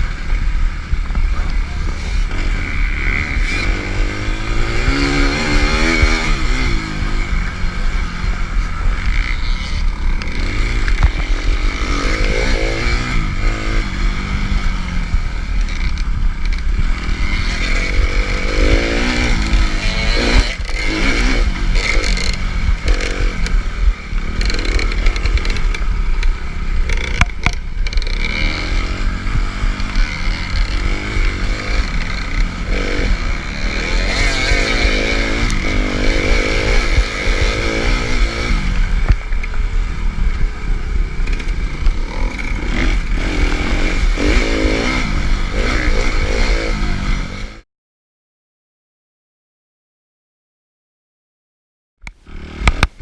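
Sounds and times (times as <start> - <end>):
motocross bike engine revving: 0.0 - 47.6, 52.1 - 53.0.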